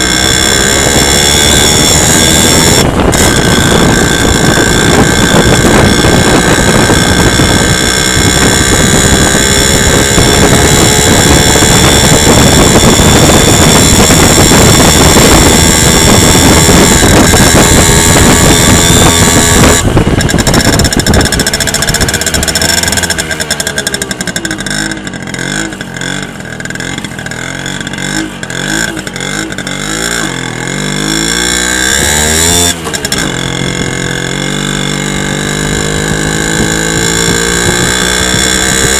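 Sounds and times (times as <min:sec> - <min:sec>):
moped engine revving: 0:00.0 - 0:38.9.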